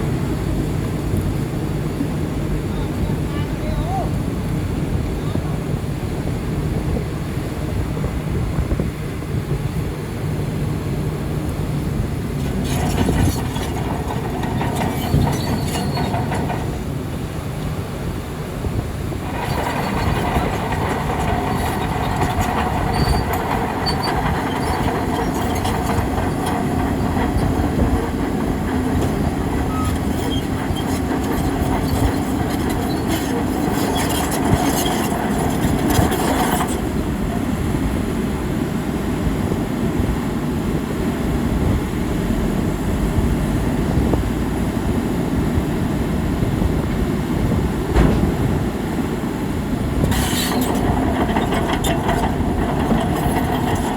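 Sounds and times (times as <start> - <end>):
bulldozer rumbling: 0.0 - 53.9.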